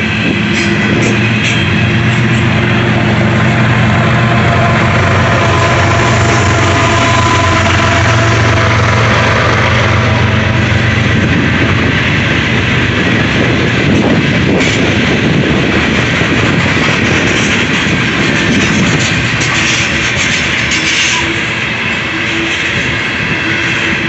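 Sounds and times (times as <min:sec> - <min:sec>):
diesel locomotive hum: 0:00.0 - 0:24.0
freight train wheels on rails: 0:00.0 - 0:24.0.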